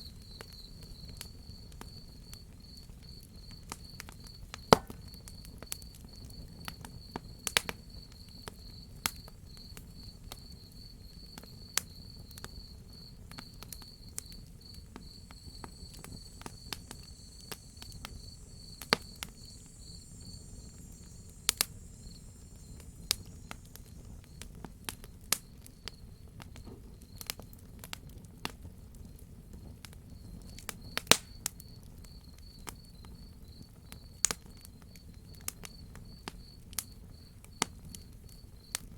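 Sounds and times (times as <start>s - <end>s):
high insect trill: 0.0s - 26.3s, 30.2s - 38.9s
cricket chirping: 0.0s - 27.7s, 29.0s - 38.9s
wood fire crackling and popping: 0.0s - 38.9s.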